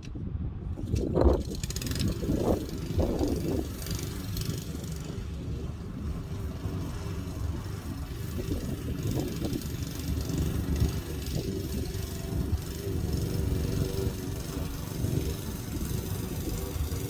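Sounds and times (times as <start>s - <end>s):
lawn mower engine running: 0.8s - 17.0s.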